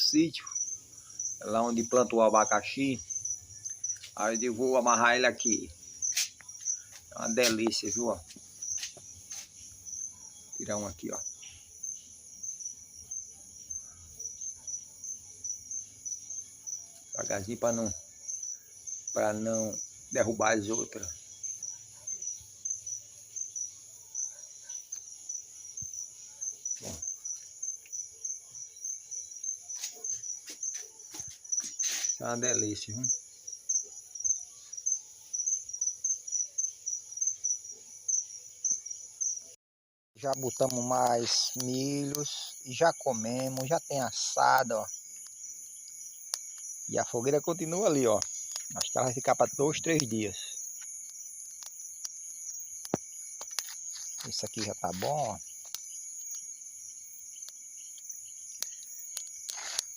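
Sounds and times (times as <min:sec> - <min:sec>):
crickets chirping: 0:00.0 - 0:39.6, 0:40.2 - 0:59.9
high insect hiss: 0:00.0 - 0:39.6, 0:40.2 - 0:59.9.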